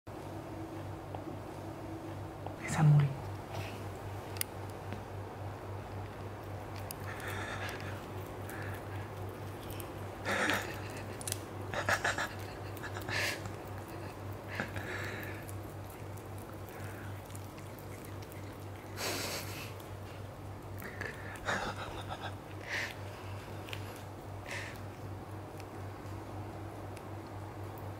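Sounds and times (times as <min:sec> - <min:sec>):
steady low hum: 0:00.1 - 0:27.9
animals sniffing and nibbling: 0:03.2 - 0:27.9.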